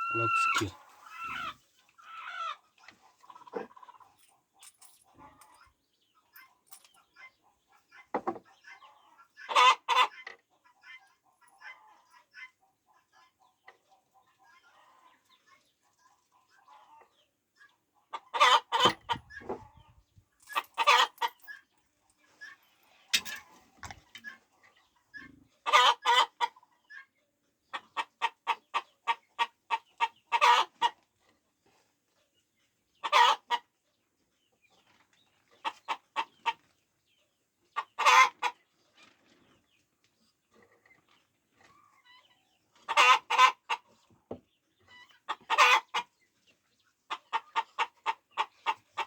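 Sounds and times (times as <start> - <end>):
chickens clucking: 0.0 - 49.0.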